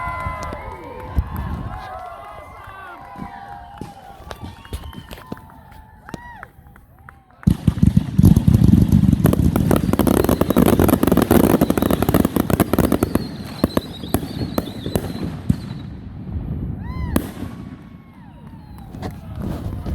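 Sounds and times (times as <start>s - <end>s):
fireworks crackling and banging: 3.0s - 19.9s.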